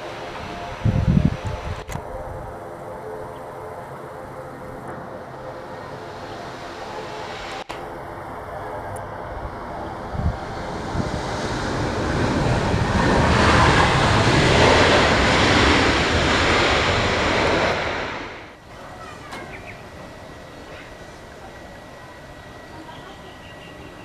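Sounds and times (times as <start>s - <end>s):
jet airliner engine roar: 0.0s - 24.0s.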